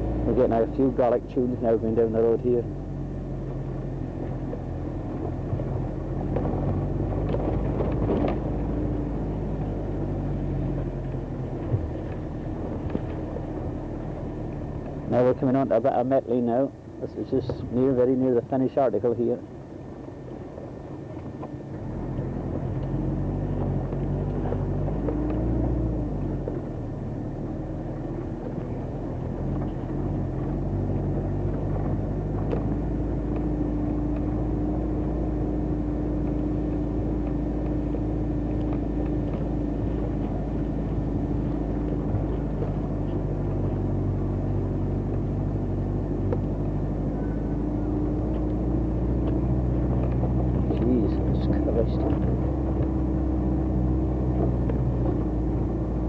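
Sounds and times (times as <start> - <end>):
driving on gravel road: 0.0 - 56.0
vehicle engine running: 0.0 - 56.0.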